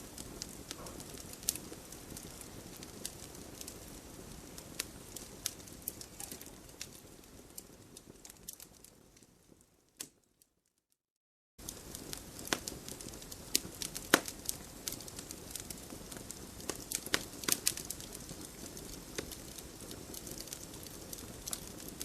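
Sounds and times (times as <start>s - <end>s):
low rumble of burning: 0.0s - 10.3s, 11.6s - 22.0s
campfire crackling and popping: 0.0s - 10.4s, 11.6s - 22.0s.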